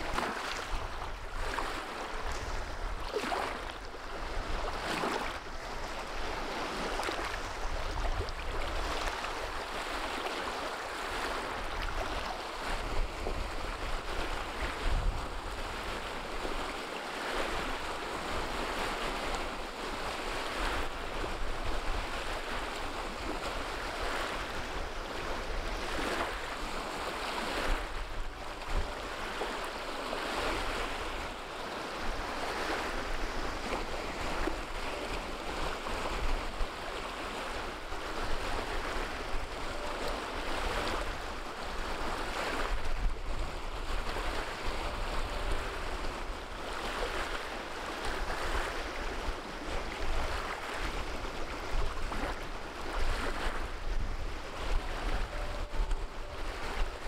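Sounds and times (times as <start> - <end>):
wind buffeting microphone: 0.0 - 9.9, 11.6 - 16.7, 19.9 - 57.0.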